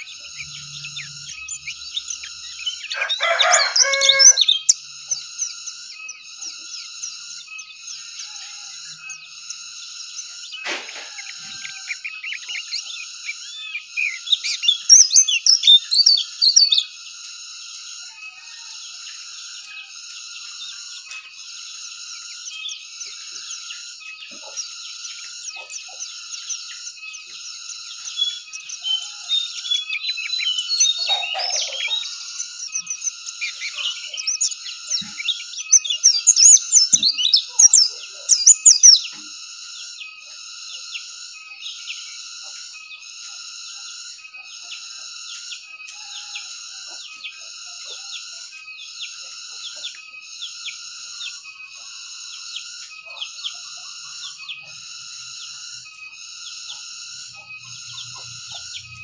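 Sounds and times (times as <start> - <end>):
pulsing high-pitched drone: 0.0 - 18.0, 19.0 - 59.0
bird twittering chirps: 0.0 - 59.0.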